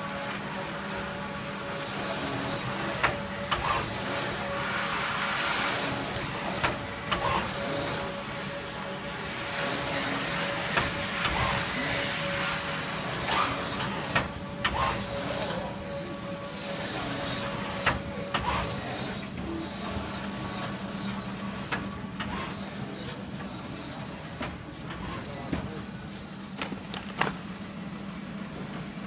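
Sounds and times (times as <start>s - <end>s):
wrapping machine motor hum: 0.0s - 28.6s.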